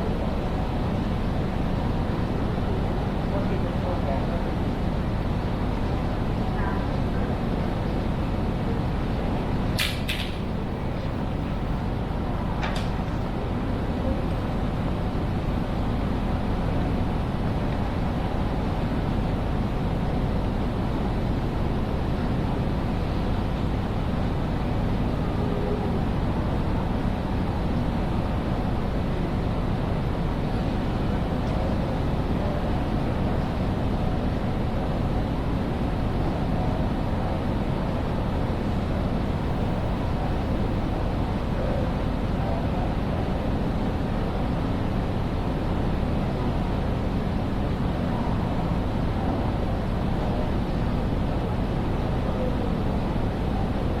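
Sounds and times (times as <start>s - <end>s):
railway station hall ambience: 0.0s - 54.0s.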